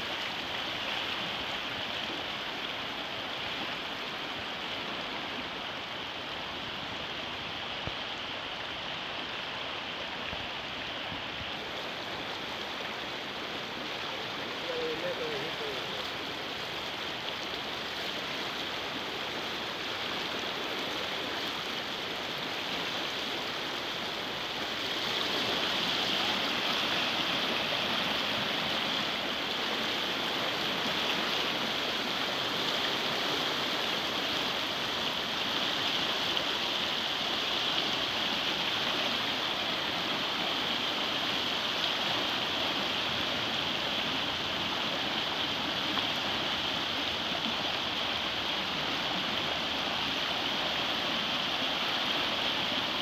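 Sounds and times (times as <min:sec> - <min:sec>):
floodwater rushing: 0:00.0 - 0:53.0.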